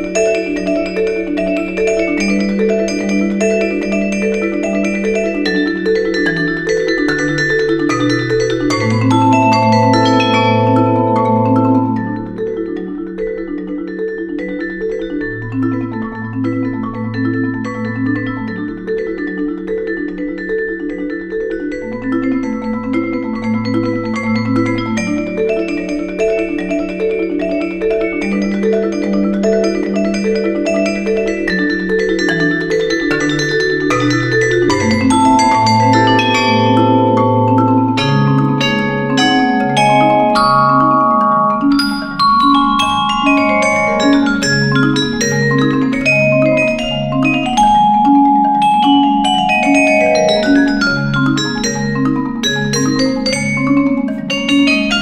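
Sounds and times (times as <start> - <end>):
marimba playing: 0.0 - 55.0
vibraphone playing: 0.0 - 55.0.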